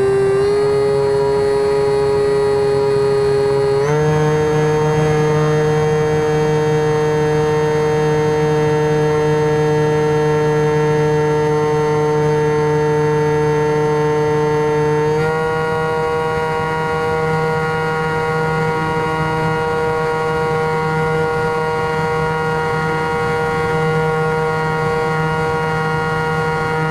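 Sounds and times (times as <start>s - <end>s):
electric motor propeller whine: 0.0s - 26.9s.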